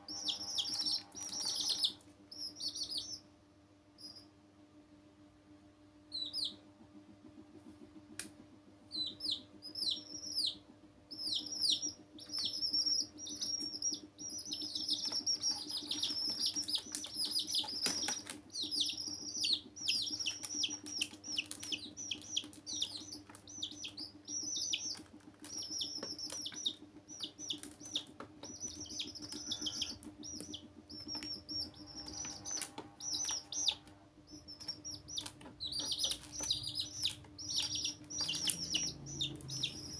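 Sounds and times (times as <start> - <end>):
baby chicks peeping: 0.0 - 3.3, 4.0 - 4.3, 6.1 - 39.9
faint steady hum: 0.0 - 39.9.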